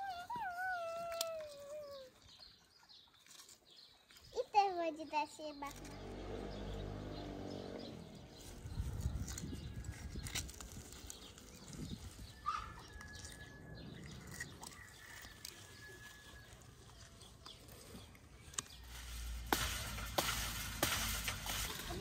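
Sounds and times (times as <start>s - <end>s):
bird chirping: 0.0s - 19.3s.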